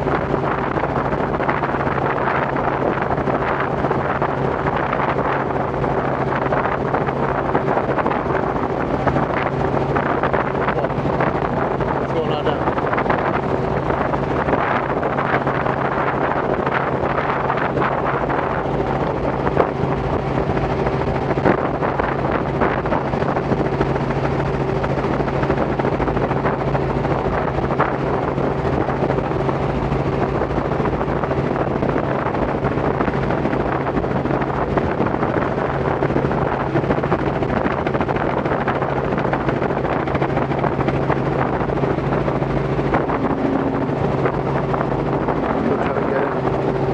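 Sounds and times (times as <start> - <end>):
helicopter engine and rotors droning: 0.0 - 46.9
wind noise on microphone: 0.0 - 46.9.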